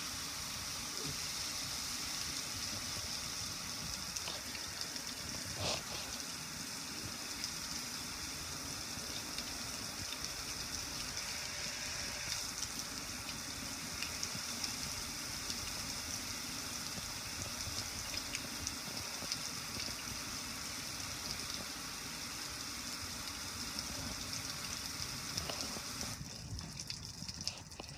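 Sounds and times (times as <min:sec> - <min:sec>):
water spraying on metal grill: 0:00.0 - 0:27.7.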